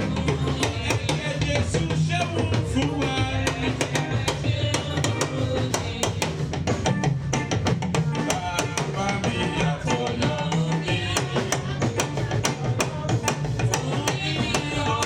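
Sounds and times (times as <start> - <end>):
voices singing: 0.0 - 6.6, 8.0 - 15.0
bass: 0.0 - 15.0
drums beating: 0.0 - 15.0
guitar: 0.0 - 15.0.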